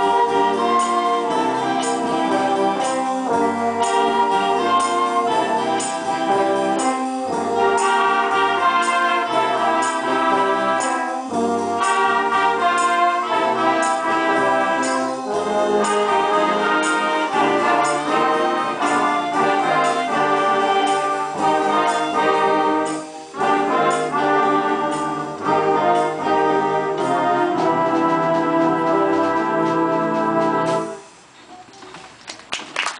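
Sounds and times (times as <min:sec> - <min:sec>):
concert band playing: 0:00.0 - 0:31.4.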